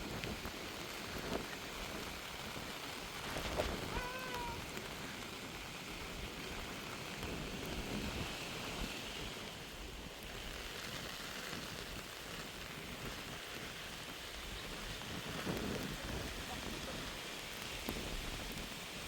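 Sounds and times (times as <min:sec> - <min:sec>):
wind buffeting microphone: 0:00.0 - 0:19.0
wind-driven rain hiss: 0:00.0 - 0:19.0.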